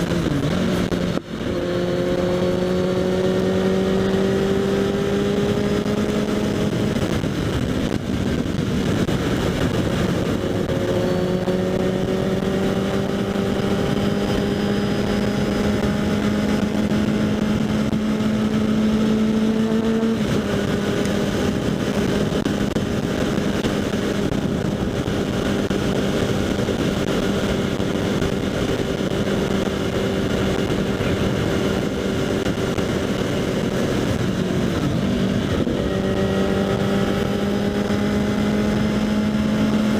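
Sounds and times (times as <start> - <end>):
motorcycle engine under way: 0.0 - 39.9
wind rush: 0.0 - 39.9.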